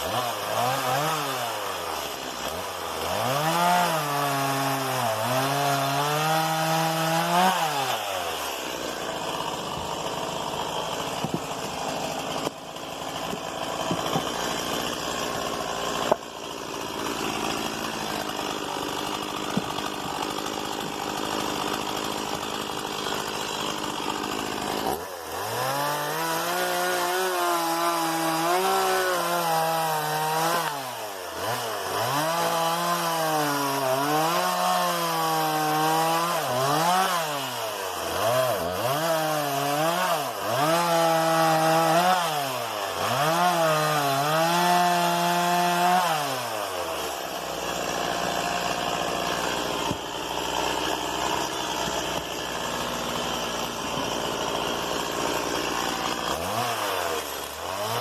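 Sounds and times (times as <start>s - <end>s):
chainsaw cutting wood: 0.0s - 58.0s
chainsaw running: 0.0s - 58.0s.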